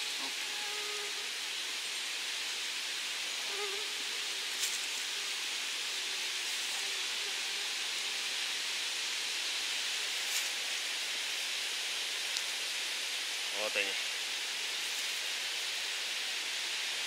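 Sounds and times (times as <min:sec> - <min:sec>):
forest ambience hiss: 0:00.0 - 0:17.0.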